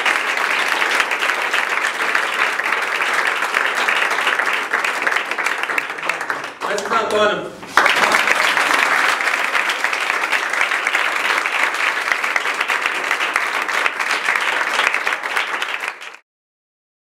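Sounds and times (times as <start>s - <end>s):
people applauding: 0.0s - 16.2s.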